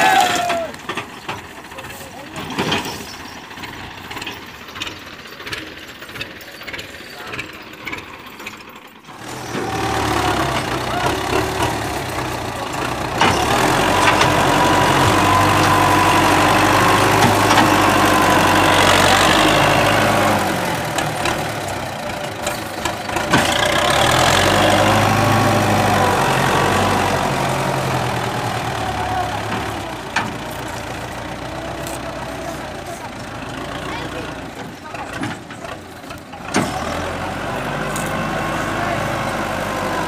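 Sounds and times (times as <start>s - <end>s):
tractor diesel engine revving: 0.0s - 40.0s.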